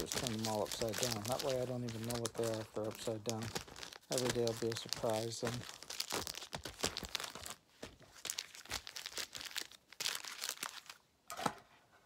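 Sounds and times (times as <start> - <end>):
foil packs crinkling: 0.0 - 11.0.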